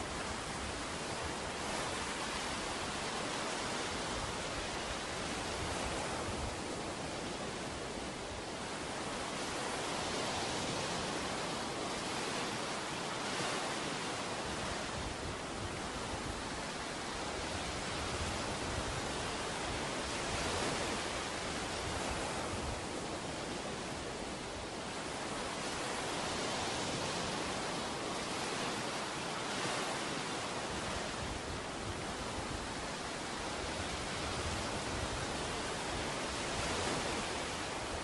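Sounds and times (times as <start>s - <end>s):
ocean surf washing onto beach: 0.0s - 38.0s.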